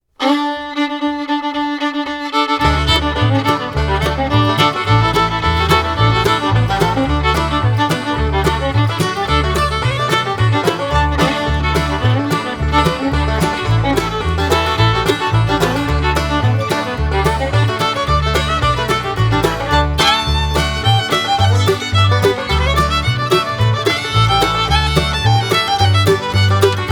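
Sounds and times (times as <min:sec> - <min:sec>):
upbeat fiddle bluegrass tune: 0:00.2 - 0:26.9.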